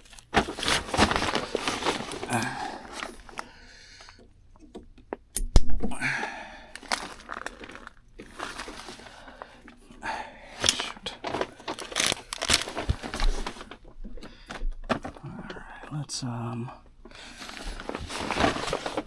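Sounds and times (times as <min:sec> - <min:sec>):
rustling and crinkling: 0:00.0 - 0:05.3, 0:06.2 - 0:19.0.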